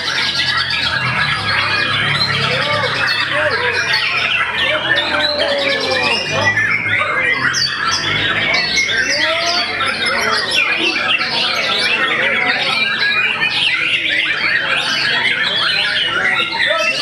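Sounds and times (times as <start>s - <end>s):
songbirds singing in chorus: 0.0s - 17.0s.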